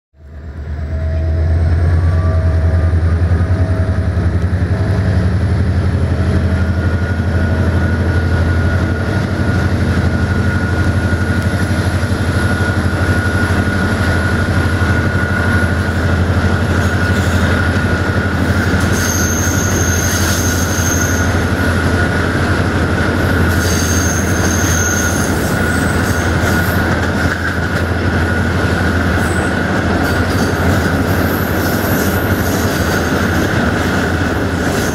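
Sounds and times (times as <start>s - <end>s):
train wheels rumbling on rails: 0.2s - 34.9s
high wheel squeal: 0.3s - 22.4s, 23.1s - 34.9s.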